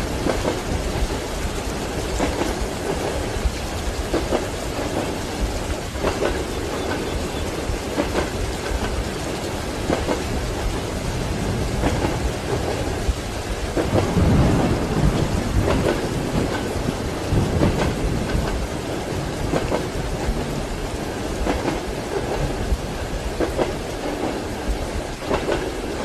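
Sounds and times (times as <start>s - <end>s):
rumbling thunder: 0.0s - 26.0s
steady rain: 0.0s - 26.0s.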